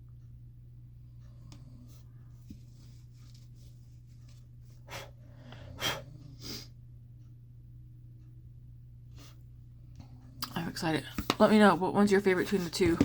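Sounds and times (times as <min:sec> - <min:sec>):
low hum: 0:00.0 - 0:11.1.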